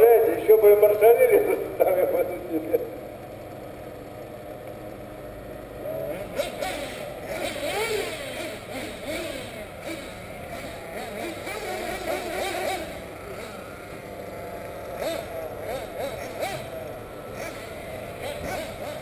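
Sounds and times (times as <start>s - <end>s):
model buggy engines whining: 0.0s - 19.0s.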